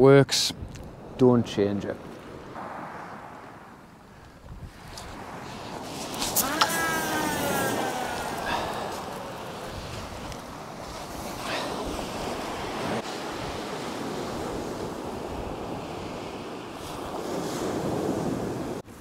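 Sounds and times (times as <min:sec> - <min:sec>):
wind buffeting microphone: 0:00.6 - 0:19.0
surf breaking on shingle beach: 0:02.4 - 0:04.0, 0:04.7 - 0:18.8.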